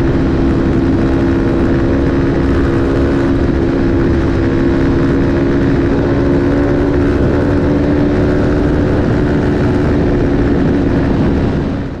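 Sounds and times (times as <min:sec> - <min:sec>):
motorcycle engine at steady revs: 0:00.0 - 0:12.0
wind rush on microphone: 0:00.0 - 0:12.0.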